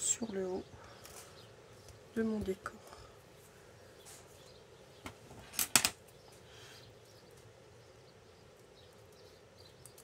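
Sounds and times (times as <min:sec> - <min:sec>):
faint room noise: 0:00.0 - 0:10.0.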